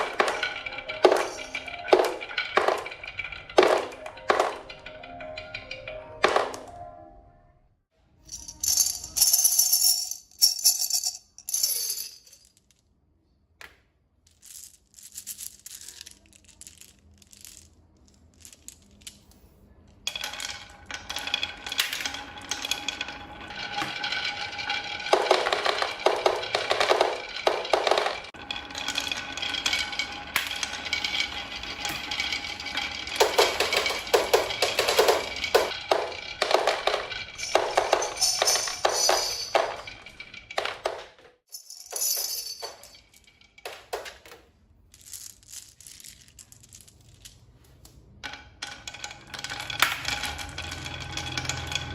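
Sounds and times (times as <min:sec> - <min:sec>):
marbles rattling down wooden run: 0:00.0 - 0:06.7, 0:08.3 - 0:12.8, 0:14.3 - 0:19.2, 0:20.1 - 0:47.5, 0:48.2 - 0:51.9.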